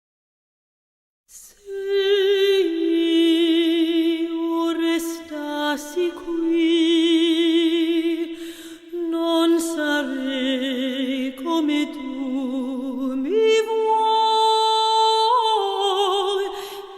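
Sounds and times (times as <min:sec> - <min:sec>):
woman singing classical: 0:01.3 - 0:16.9.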